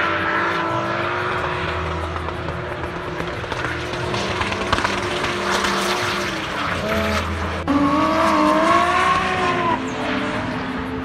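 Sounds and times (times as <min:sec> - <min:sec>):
car engines at high revs: 0:00.0 - 0:11.0.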